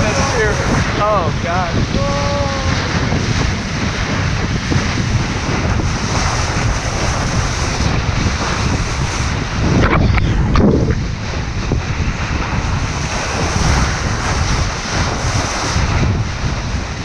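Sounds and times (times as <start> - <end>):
strong wind buffeting microphone: 0.0 - 17.0
water splashing along boat hull: 2.7 - 17.0.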